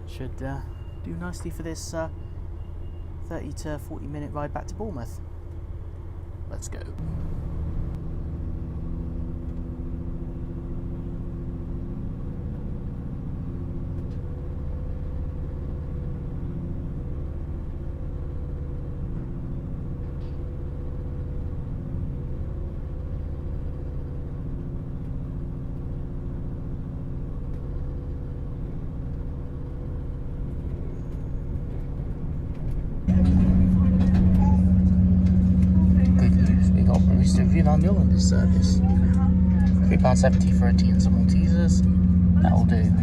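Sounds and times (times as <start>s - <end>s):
train diesel engine rumble: 0.0s - 8.7s, 14.1s - 43.0s
held engine tones: 0.0s - 43.0s.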